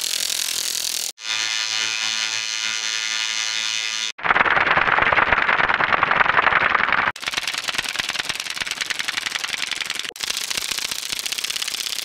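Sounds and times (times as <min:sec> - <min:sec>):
toy fan buzzy rattle: 0:00.0 - 0:12.0.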